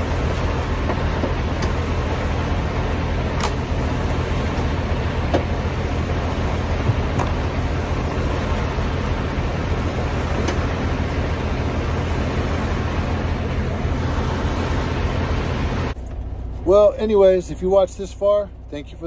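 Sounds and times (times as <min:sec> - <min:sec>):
refrigeration unit running: 0:00.0 - 0:19.0
truck diesel engine idling: 0:00.0 - 0:19.0.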